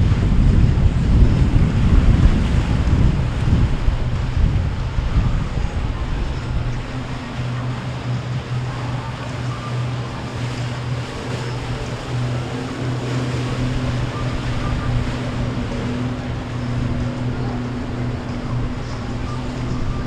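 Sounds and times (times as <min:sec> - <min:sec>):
boat engine drone: 0:00.0 - 0:20.0
higher engine tone: 0:00.0 - 0:20.0
water noise: 0:00.0 - 0:20.0
wind: 0:00.0 - 0:20.0.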